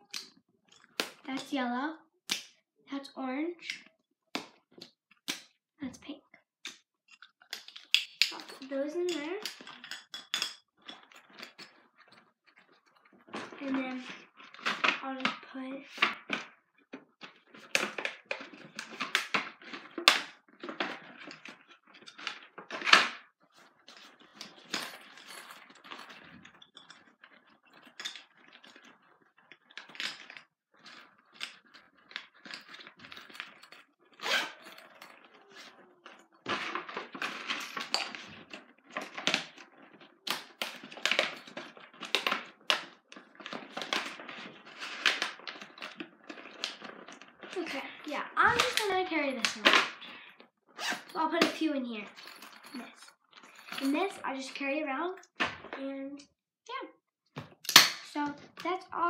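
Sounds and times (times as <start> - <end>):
small items clicking and tapping: 0.0 - 1.6, 6.6 - 56.3.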